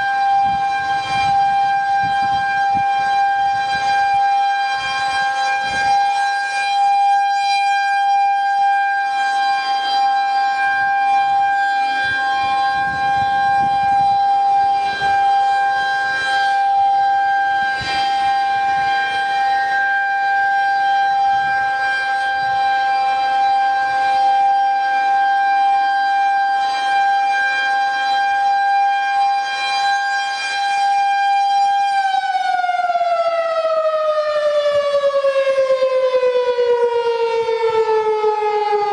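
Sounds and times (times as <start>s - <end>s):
high-pitched siren winding down: 0.0s - 38.9s.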